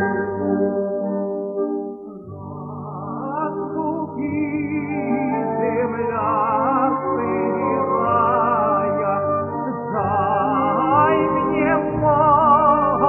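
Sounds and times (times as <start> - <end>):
instrumental accompaniment: 0.0 - 13.0
operatic tenor singing: 2.4 - 13.0.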